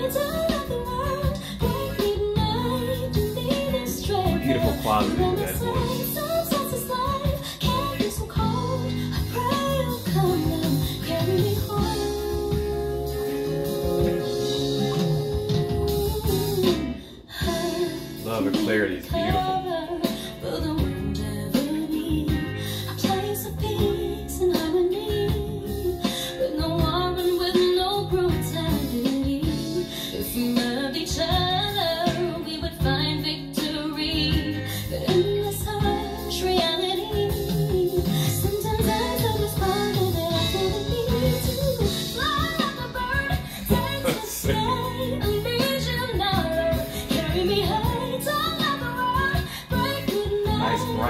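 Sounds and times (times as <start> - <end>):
acoustic guitar: 0.0 - 51.0
bass guitar: 0.0 - 51.0
piano: 0.0 - 51.0
woman singing a slow ballad: 0.0 - 51.0.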